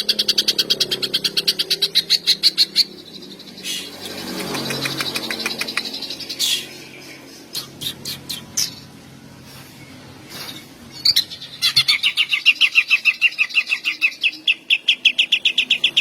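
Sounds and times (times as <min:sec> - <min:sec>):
bird singing trills and whistles: 0:00.0 - 0:08.9, 0:09.8 - 0:16.0.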